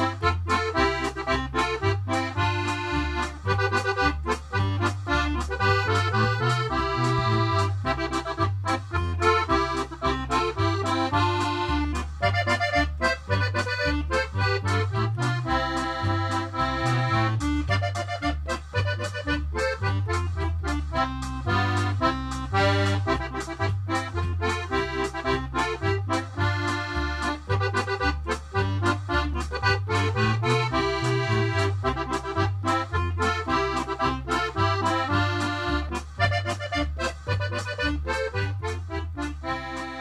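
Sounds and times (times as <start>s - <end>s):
instrumental background music: 0.0s - 40.0s.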